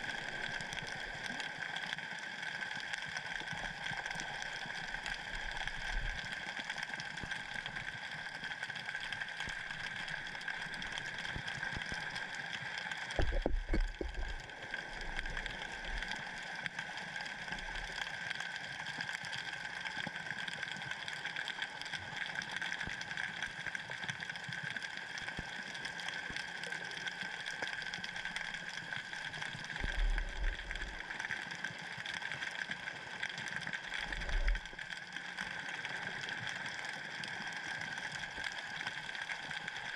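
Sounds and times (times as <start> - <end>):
underwater hum and hiss: 0.0 - 39.9.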